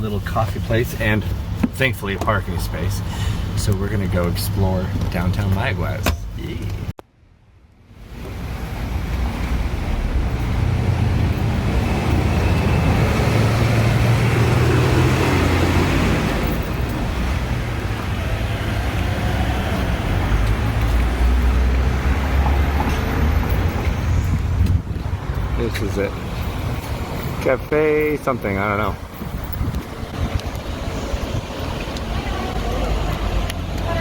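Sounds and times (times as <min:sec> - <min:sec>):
vehicle road noise: 0:00.0 - 0:07.0, 0:07.9 - 0:34.0.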